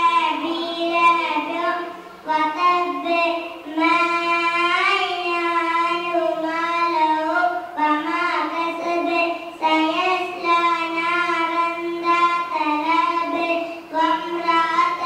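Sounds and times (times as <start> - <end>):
girl chanting recitation: 0.0 - 15.0.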